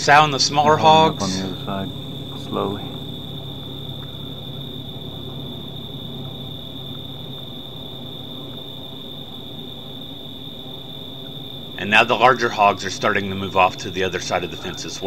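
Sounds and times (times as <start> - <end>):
crickets trilling: 0.0 - 15.0
low steady hum: 0.0 - 15.0.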